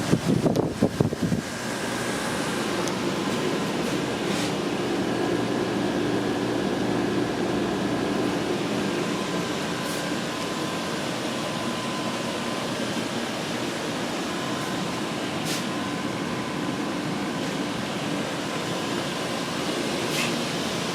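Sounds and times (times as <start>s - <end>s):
heat pump fan whoosh and hum: 0.0s - 20.9s.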